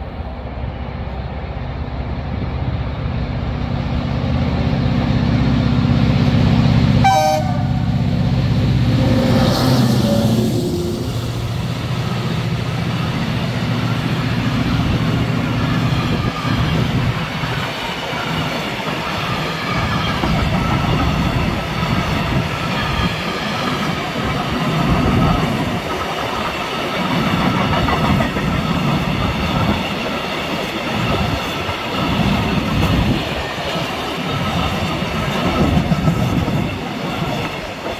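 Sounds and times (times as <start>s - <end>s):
diesel locomotive drone: 0.0s - 37.9s.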